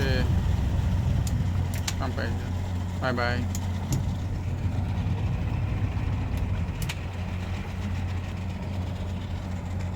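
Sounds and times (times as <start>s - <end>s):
marine engine idling: 0.0s - 9.9s.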